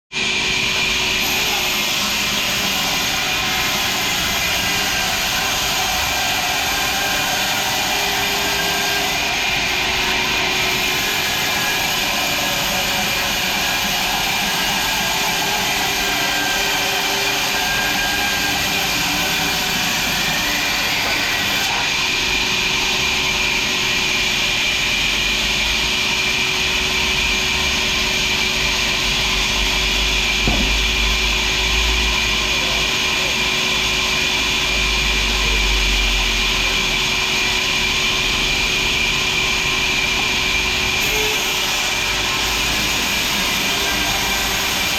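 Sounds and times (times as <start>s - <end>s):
sawmill machinery hissing drone: 0.2s - 44.9s.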